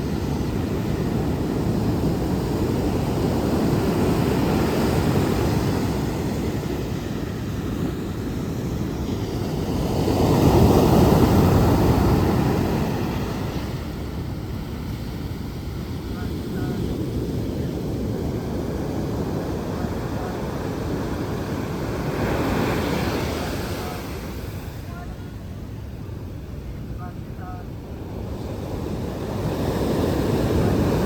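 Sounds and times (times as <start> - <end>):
ocean waves washing: 0.0 - 31.0.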